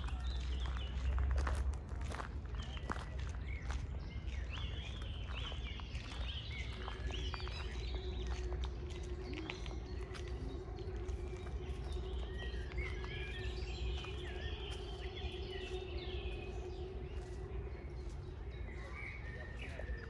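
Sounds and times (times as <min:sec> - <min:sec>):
low hum and rumble: 0:00.0 - 0:20.0
songbirds chirping: 0:00.0 - 0:20.0.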